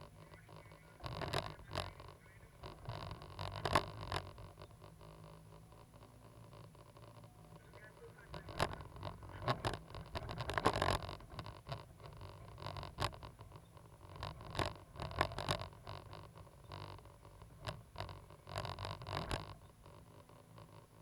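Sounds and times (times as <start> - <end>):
excavator engine hum: 0.0 - 21.0.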